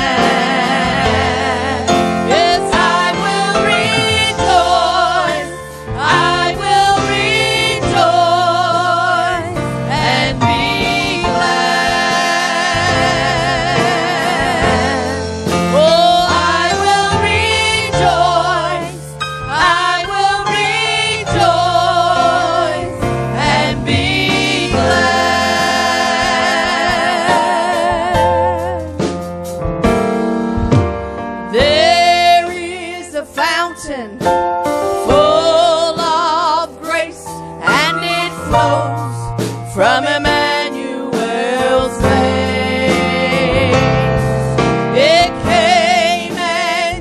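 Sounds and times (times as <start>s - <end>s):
voices singing held notes: 0.0s - 28.8s, 35.1s - 44.0s, 44.9s - 47.0s
instrumental accompaniment: 0.0s - 47.0s.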